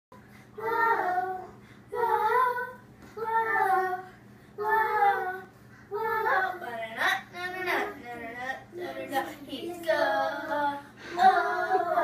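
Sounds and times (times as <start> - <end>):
child singing: 0.6 - 12.0.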